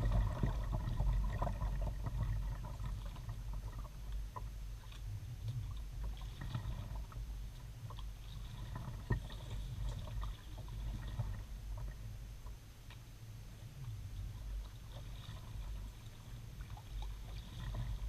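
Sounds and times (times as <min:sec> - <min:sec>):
low rumble through kayak hull: 0:00.0 - 0:18.0.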